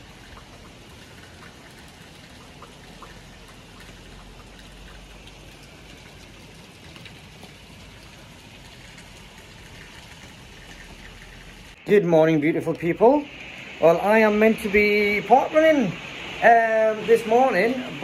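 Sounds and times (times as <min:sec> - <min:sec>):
rain drops ticking on a roof: 0:00.0 - 0:18.0.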